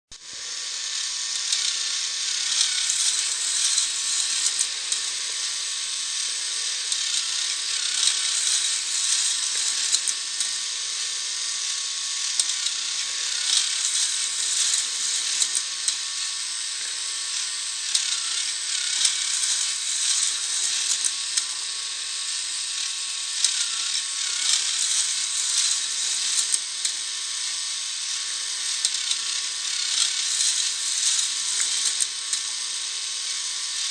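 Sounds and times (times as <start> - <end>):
plastic gears clicking and rattling: 0.5 - 10.8, 11.4 - 33.9.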